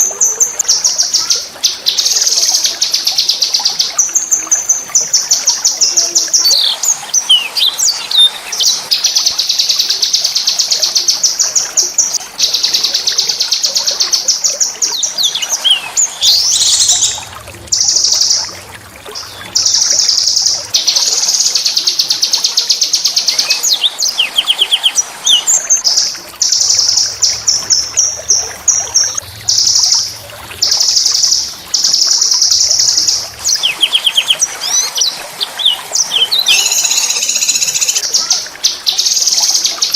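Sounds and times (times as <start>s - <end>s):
songbird singing trills: 1.8s - 9.9s, 12.1s - 18.5s, 19.2s - 39.8s.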